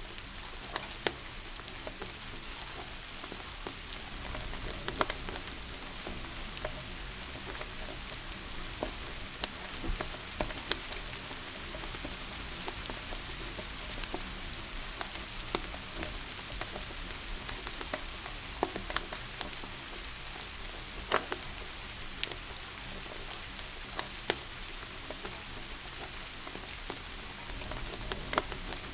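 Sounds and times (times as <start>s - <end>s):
steady rain: 0.0s - 28.9s
wood fire crackling and popping: 0.0s - 28.9s.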